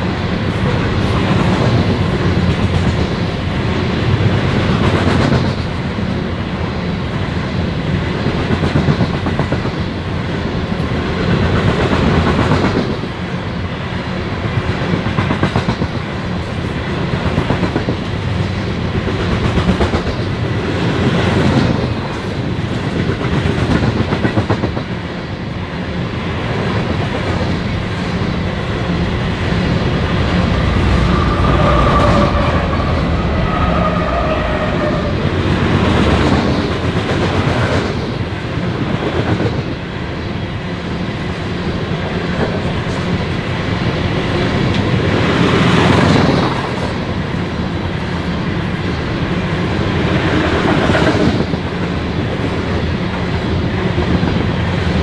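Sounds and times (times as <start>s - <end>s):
freight train wheels clickety-clack: 0.0s - 55.0s.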